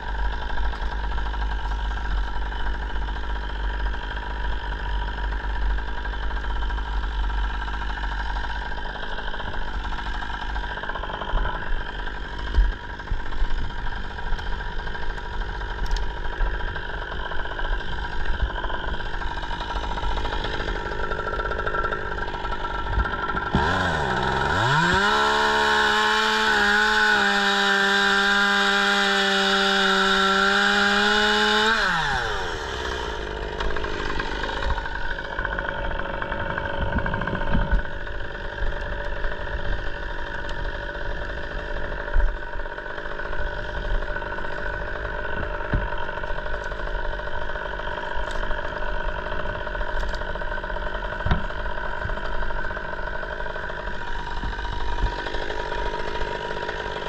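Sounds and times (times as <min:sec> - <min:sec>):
chainsaw revving at full throttle: 0:00.0 - 0:57.0
small engine humming: 0:00.0 - 0:57.0.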